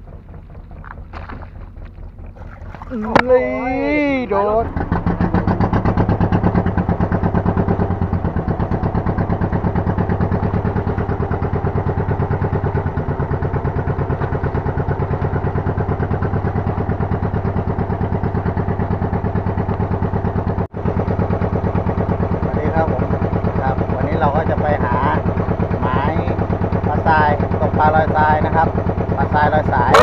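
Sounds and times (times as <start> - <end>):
boat engine throbbing: 0.0 - 30.0.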